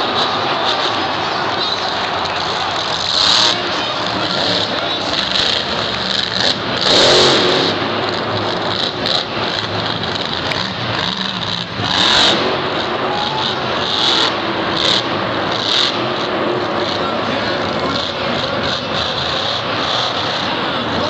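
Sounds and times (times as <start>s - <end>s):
monster truck engines revving: 0.0s - 21.0s.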